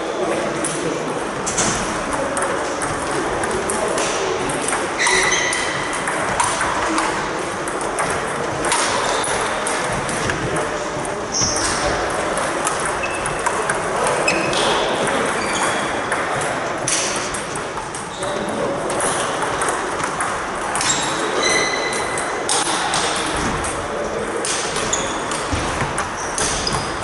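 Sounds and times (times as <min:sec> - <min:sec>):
table tennis balls clicking: 0:00.6 - 0:27.0.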